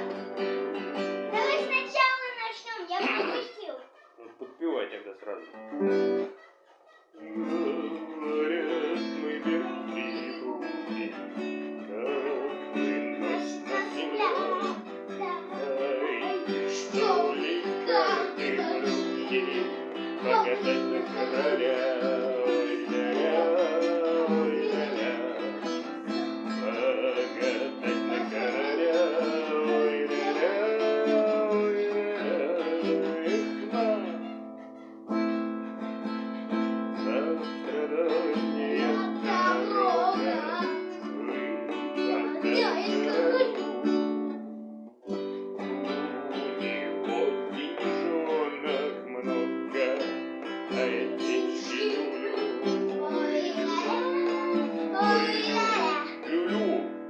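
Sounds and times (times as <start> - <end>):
person singing: 0.0 - 1.7, 3.0 - 3.4, 7.1 - 57.0
acoustic guitar strumming chords: 0.0 - 3.6, 5.1 - 6.4, 7.2 - 57.0.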